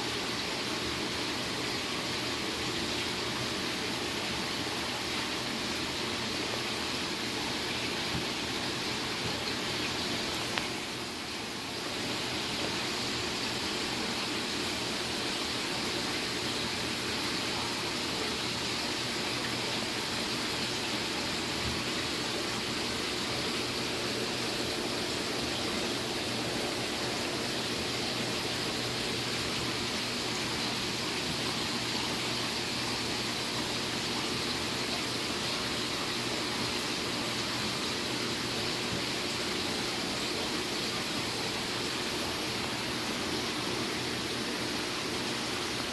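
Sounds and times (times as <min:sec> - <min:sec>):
circulating water rushing: 0:00.0 - 0:45.9
faint low pump hum: 0:00.0 - 0:45.9.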